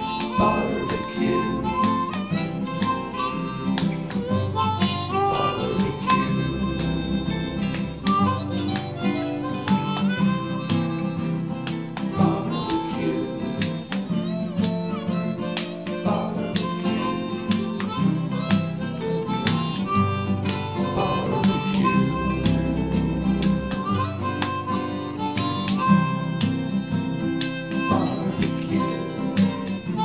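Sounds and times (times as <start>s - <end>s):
harmonica bending notes: 0.0s - 30.0s
plucked guitar: 0.0s - 30.0s.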